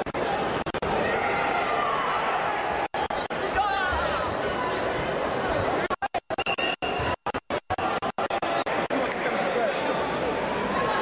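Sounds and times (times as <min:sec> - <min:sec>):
crowd noise: 0:00.0 - 0:11.0.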